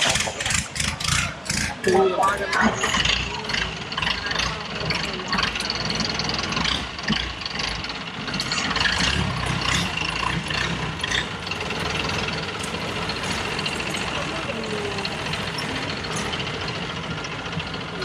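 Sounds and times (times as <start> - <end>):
boat engine idling: 0.0 - 18.0
knocks and clatter: 2.6 - 18.0.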